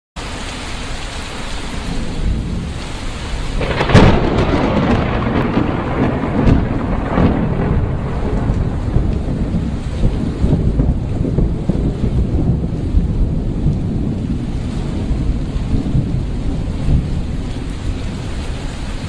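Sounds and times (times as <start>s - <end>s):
rain hiss: 0.2s - 19.0s
thunder crack and rumble: 1.9s - 19.0s.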